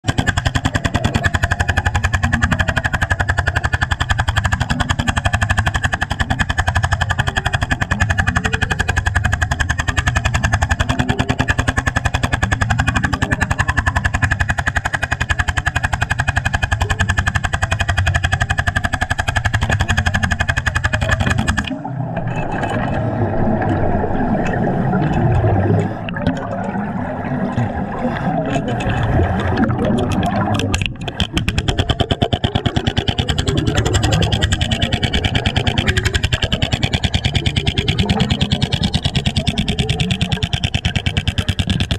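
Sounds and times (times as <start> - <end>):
underwater jackhammer hammering: 0.0 - 26.5, 27.5 - 41.9
irregular underwater noise: 0.0 - 41.9.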